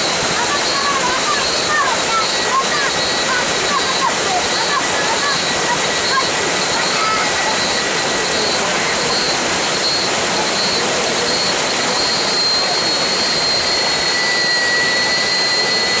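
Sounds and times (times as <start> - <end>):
waterfall splashing onto rock: 0.0 - 13.9.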